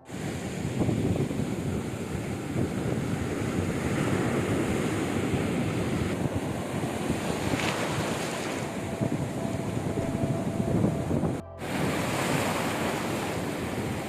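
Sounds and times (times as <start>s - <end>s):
sea surf washing onto beach: 0.0s - 14.0s
wind buffeting microphone: 0.0s - 14.0s.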